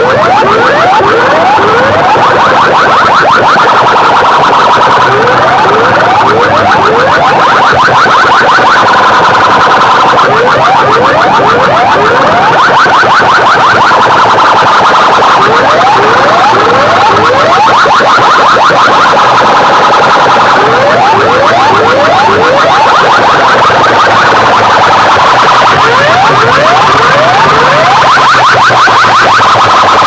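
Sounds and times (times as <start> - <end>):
electronic siren-like chirps: 0.0 - 30.0.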